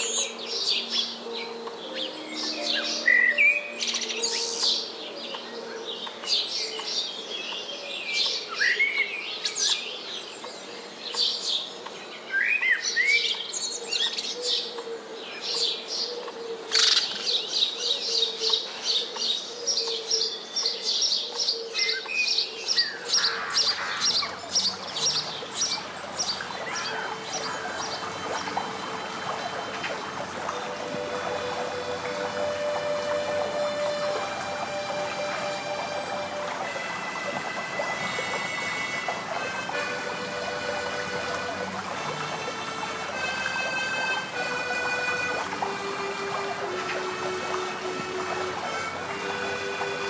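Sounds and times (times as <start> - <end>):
songbirds singing: 0.0 - 50.0.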